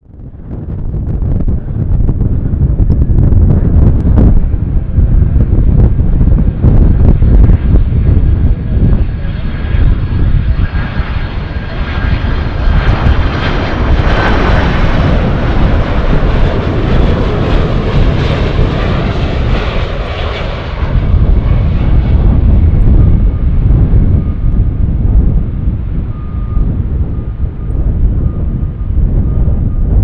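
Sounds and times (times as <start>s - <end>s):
jet engines roaring past: 0.0s - 30.0s
wind buffeting microphone: 0.0s - 30.0s.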